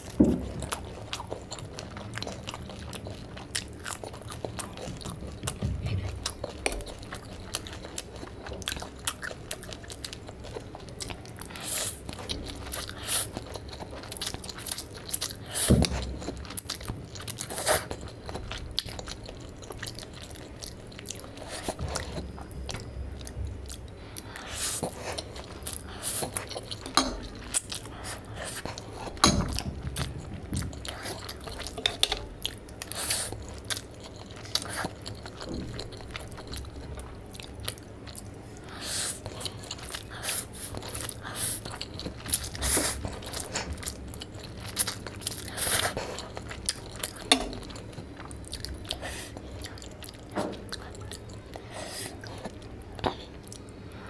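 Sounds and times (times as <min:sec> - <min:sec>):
person chewing noodles: 0:00.0 - 0:54.0.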